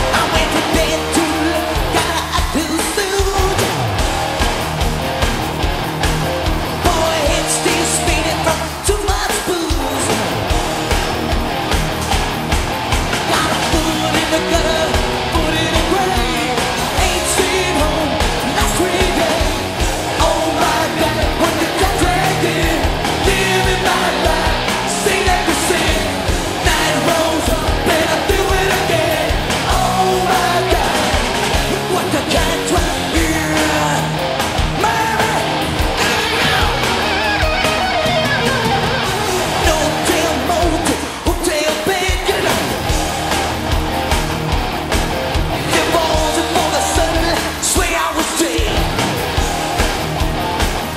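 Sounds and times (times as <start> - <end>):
lead vocals singing: 0.0 - 4.1, 6.6 - 11.1, 13.1 - 43.2, 45.3 - 49.8
bass guitar: 0.0 - 50.9
distorted electric guitars: 0.0 - 50.9
drums: 0.0 - 50.9.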